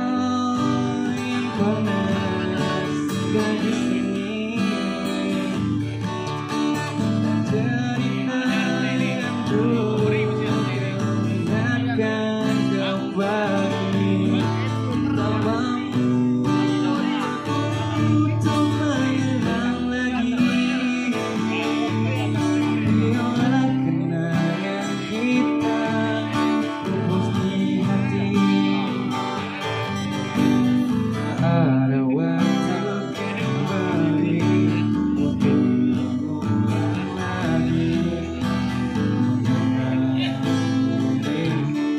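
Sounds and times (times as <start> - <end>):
acoustic guitar strumming: 0.0 - 41.9
man singing through speakers: 0.0 - 41.9.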